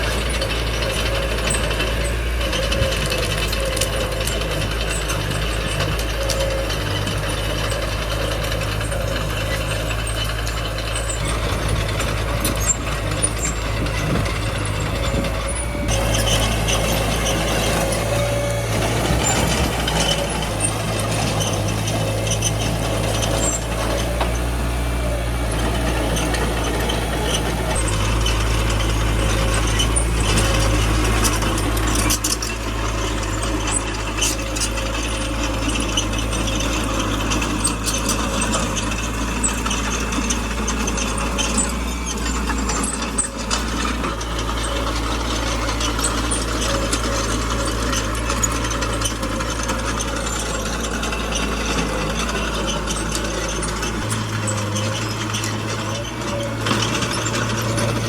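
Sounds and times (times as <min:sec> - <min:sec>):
diesel engine running: 0:00.0 - 0:58.0
steel tracks clanking: 0:00.0 - 0:58.0.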